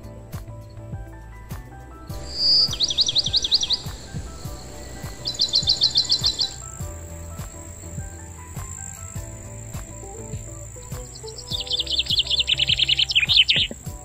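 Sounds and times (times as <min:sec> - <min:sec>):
high-pitched insect drone: 0:02.1 - 0:14.0
songbird singing: 0:02.1 - 0:14.0.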